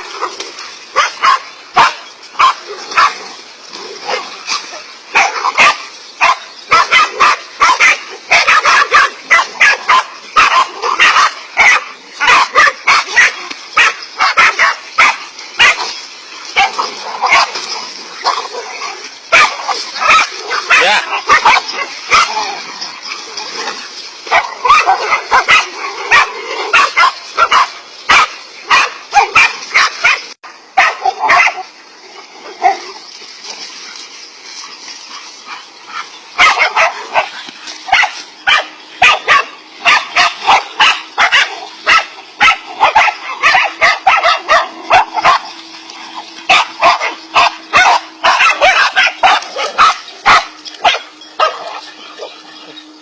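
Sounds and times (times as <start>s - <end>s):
dogs barking and yelping: 0.0s - 53.0s.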